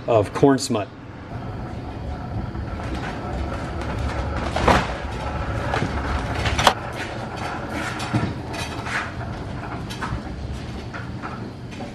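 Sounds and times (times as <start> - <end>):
pallet jack rolling rumble: 1.0 - 11.9
crates clicking and rattling: 1.6 - 11.9.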